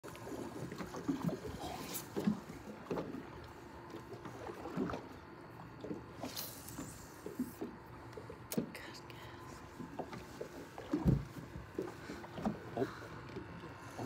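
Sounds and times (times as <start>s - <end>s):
small waves lapping against hull: 0.0s - 14.0s.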